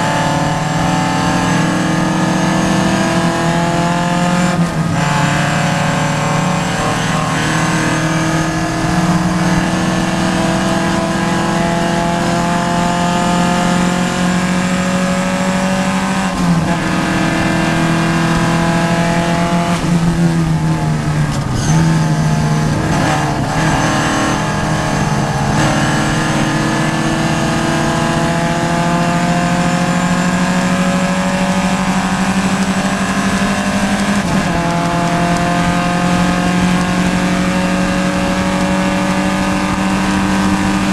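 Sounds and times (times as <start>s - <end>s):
race car engine at speed: 0.0s - 40.9s.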